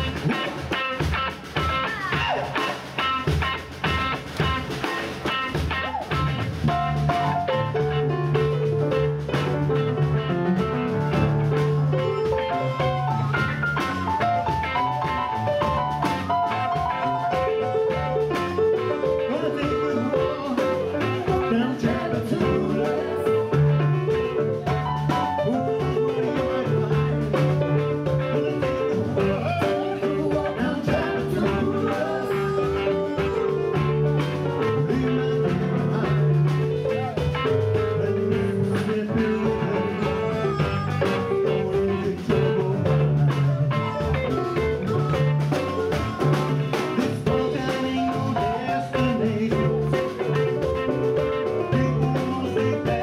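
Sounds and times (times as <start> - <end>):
person singing: 0.0 - 2.9, 11.1 - 53.0
live blues band playing: 0.0 - 53.0.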